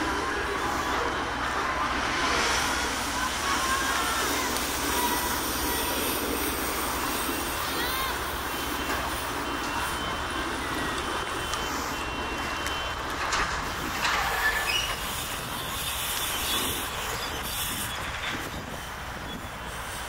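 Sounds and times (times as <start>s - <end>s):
bike tyres rolling on pavement: 0.0s - 20.0s.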